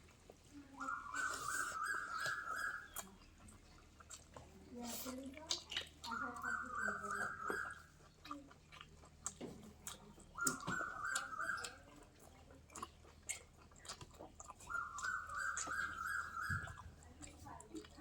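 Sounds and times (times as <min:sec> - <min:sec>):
soft chewing clicks: 0:00.0 - 0:18.0.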